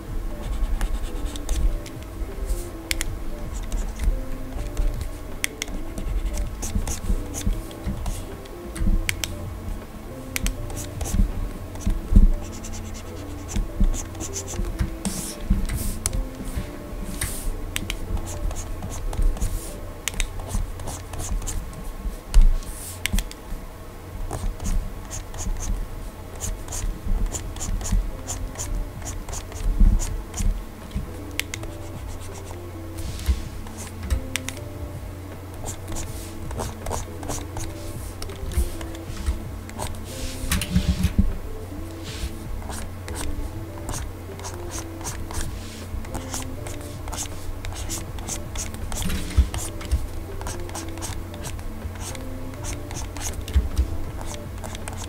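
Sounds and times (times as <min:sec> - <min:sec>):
stylus scratching on screen: 0:00.3 - 0:23.3, 0:24.3 - 0:25.8, 0:26.4 - 0:34.7, 0:35.6 - 0:41.3, 0:42.0 - 0:55.0.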